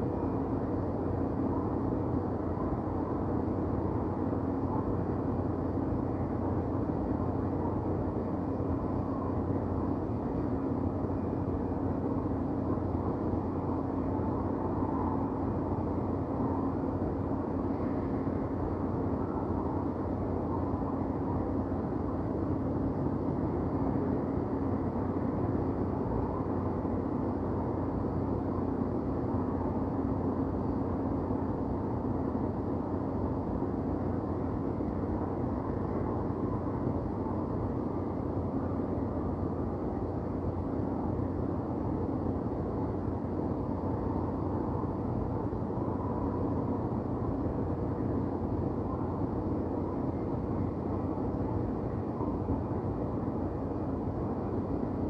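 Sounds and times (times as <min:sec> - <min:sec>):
constant low hum: 0:00.0 - 0:55.0.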